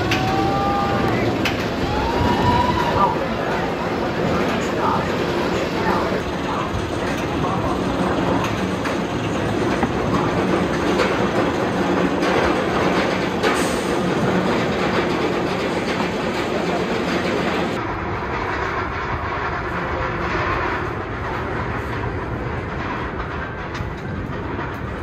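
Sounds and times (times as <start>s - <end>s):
roller coaster lift chain clatter: 0.0s - 25.0s.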